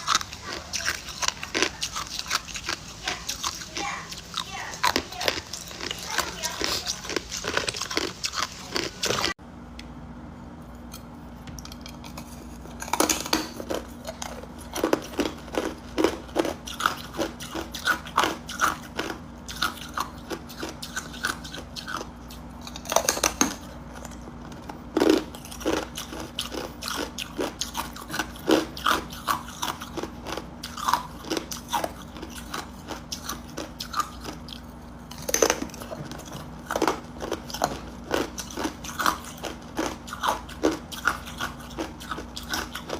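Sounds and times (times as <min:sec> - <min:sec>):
ice cubes crunching in mouth: 0:00.0 - 0:09.3, 0:11.7 - 0:42.9.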